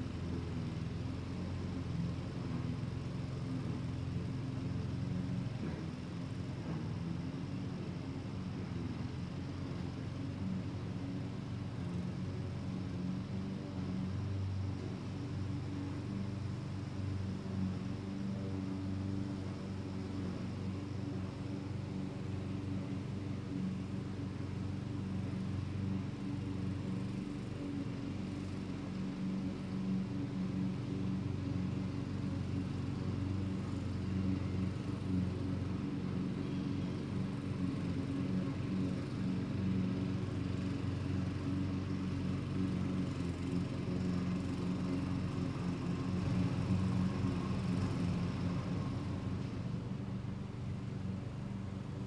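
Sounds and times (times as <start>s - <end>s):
lawn mower engines running: 0.0s - 52.0s.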